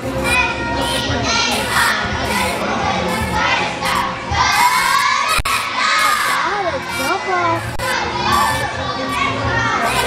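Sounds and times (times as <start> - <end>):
children shouting and cheering: 0.0 - 10.0.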